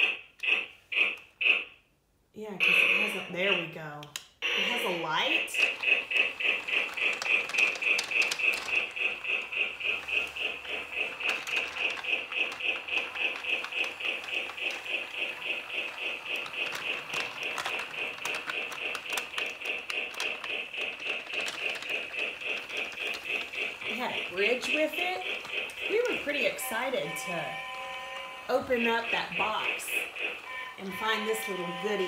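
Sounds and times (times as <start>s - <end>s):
toy train motor whirring: 4.5s - 32.0s
light rhythmic clicking: 5.4s - 32.0s.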